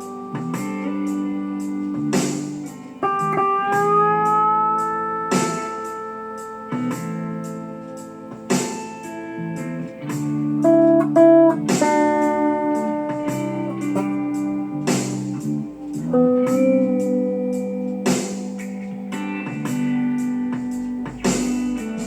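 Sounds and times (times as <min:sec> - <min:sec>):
lap steel guitar playing: 0:00.0 - 0:22.0.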